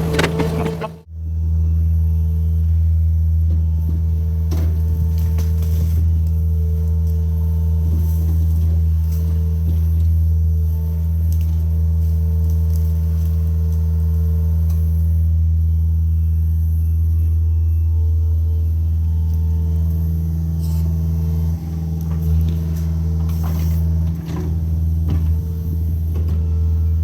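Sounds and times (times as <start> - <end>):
excavator diesel engine droning: 0.0 - 13.5, 14.3 - 27.0.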